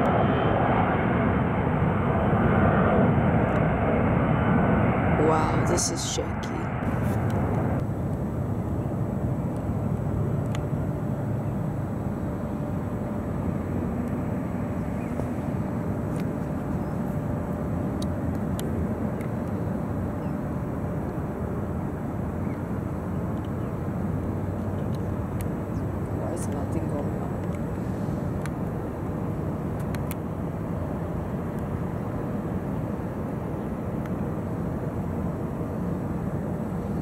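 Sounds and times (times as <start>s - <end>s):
distant jet engines rumbling: 0.0s - 37.0s
faint engine whine: 0.0s - 37.0s.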